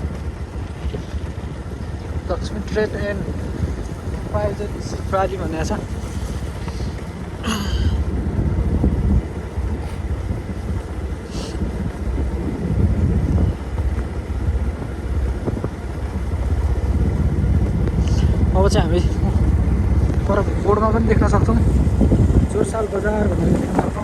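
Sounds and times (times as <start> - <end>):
motorcycle engine and road rumble: 0.0 - 24.0
wind buffeting microphone: 0.0 - 24.0.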